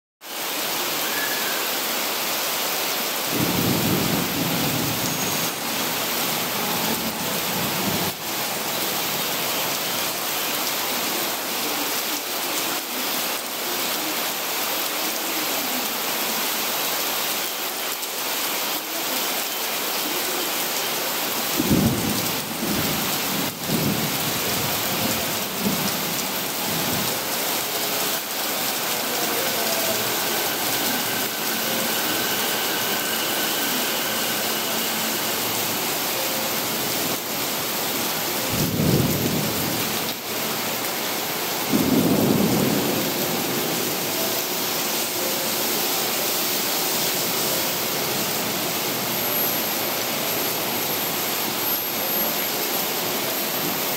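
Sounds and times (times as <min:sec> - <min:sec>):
torrential rain on roof: 0:00.2 - 0:53.9.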